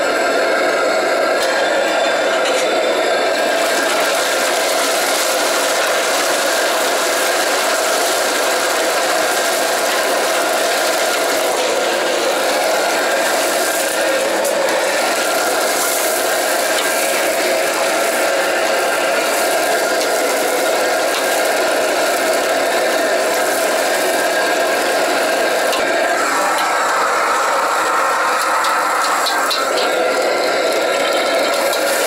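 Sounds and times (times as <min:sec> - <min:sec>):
gas burner roar: 0:00.0 - 0:32.0.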